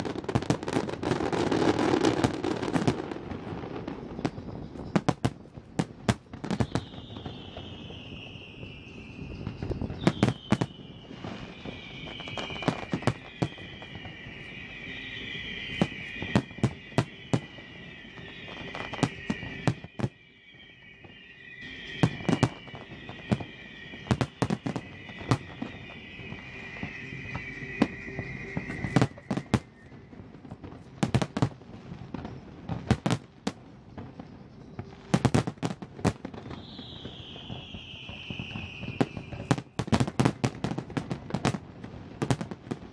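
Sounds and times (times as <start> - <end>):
falling firework whistles: 0.0 - 42.9
firework bangs and crackling: 0.0 - 42.9.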